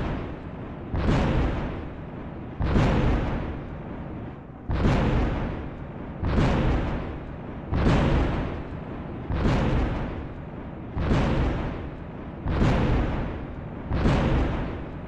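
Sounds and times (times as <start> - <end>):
thunderclap: 0.0 - 15.0.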